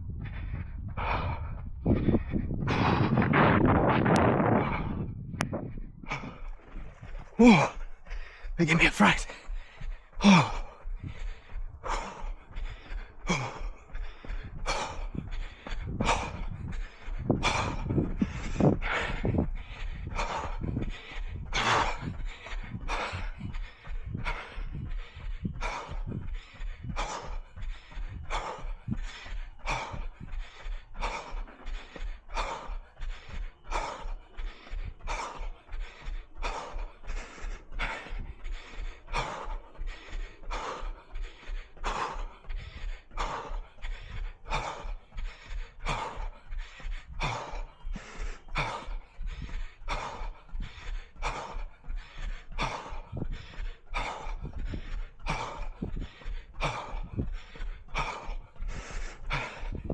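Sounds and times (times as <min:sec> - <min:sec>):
heavy rhythmic breathing: 0:00.0 - 0:59.9.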